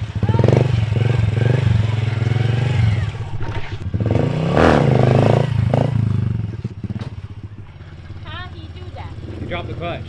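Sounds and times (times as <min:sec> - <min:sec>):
small motorbike engine revving: 0:00.0 - 0:10.0.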